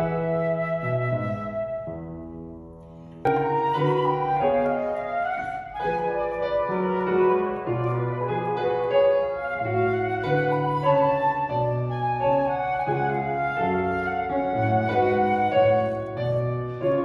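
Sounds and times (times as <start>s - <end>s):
flute melody: 0.0s - 2.6s, 3.3s - 17.0s
piano chords: 0.0s - 17.0s.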